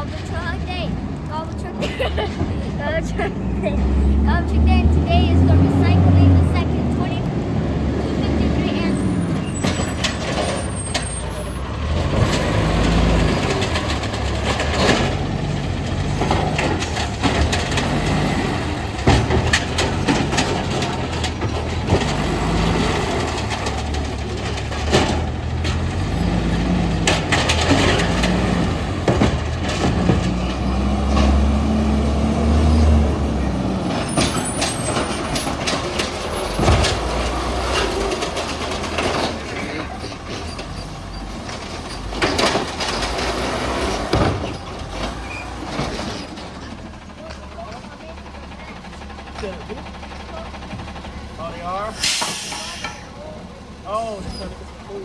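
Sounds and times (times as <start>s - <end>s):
garbage truck engine revving: 0.0s - 55.0s.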